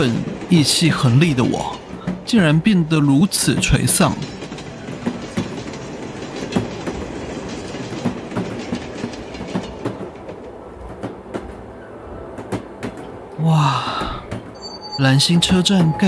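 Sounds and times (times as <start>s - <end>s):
train wheels clickety-clack: 0.0s - 16.0s.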